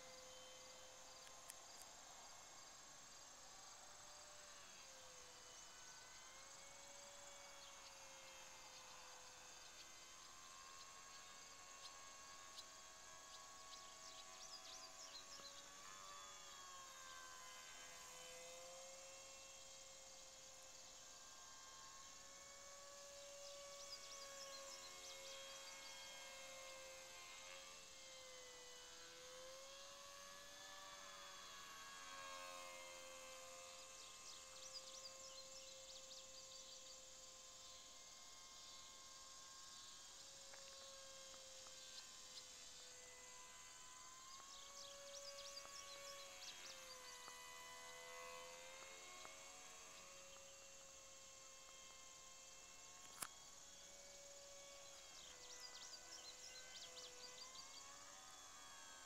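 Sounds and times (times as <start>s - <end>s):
model plane motor whine: 0.0s - 59.0s.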